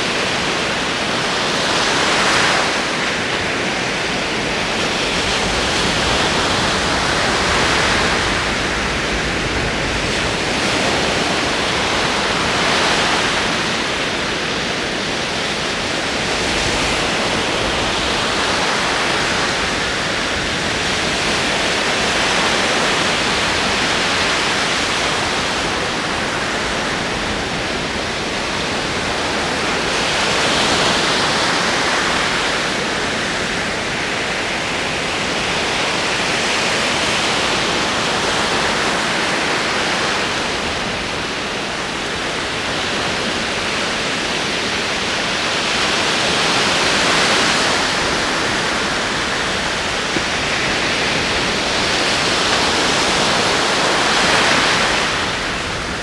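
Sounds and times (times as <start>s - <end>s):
ocean waves on shore: 0.0s - 56.0s.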